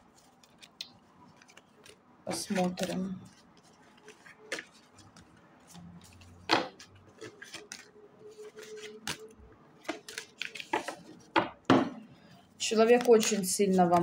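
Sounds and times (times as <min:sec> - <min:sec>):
soft card rustling: 0:00.0 - 0:11.4, 0:12.3 - 0:14.0.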